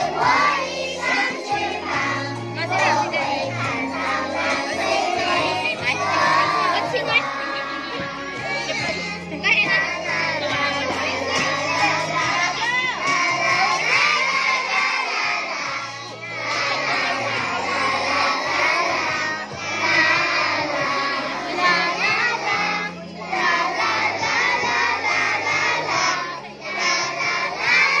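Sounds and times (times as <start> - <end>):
children singing in unison: 0.0 - 28.0.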